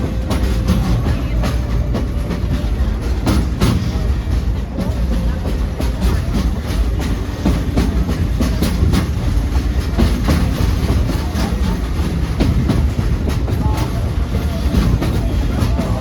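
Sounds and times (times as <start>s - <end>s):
train cars rumbling on track: 0.0s - 16.0s.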